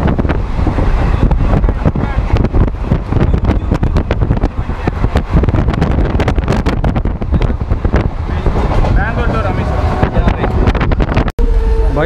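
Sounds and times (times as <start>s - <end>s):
wheels clattering on rails: 0.0s - 11.3s
train rumble: 0.0s - 12.0s
wind buffeting microphone: 0.0s - 12.0s.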